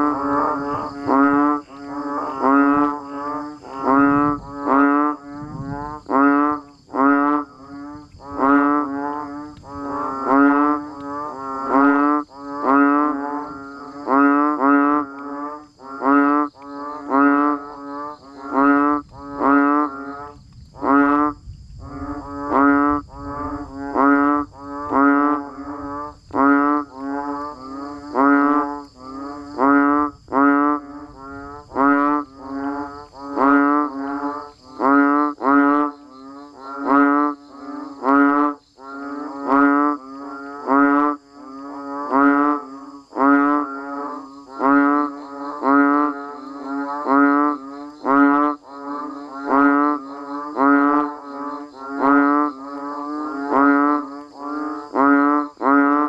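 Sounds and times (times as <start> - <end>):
frogs calling in chorus: 0.0 - 56.0.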